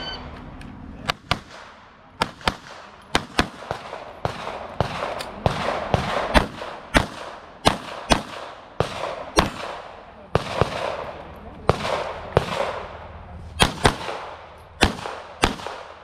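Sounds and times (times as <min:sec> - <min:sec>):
gunshot echo: 0:01.1 - 0:13.0, 0:13.6 - 0:16.0
pistol shots: 0:01.1 - 0:16.0.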